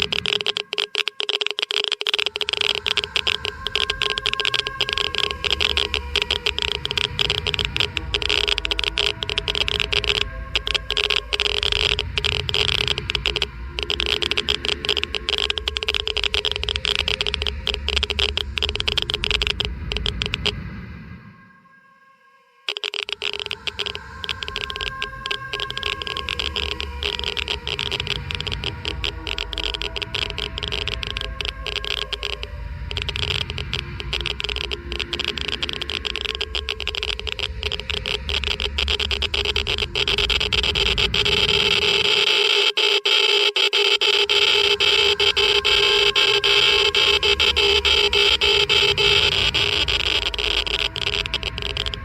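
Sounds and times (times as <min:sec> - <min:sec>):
geiger counter clicking: 0:00.0 - 0:20.6, 0:22.7 - 0:52.0.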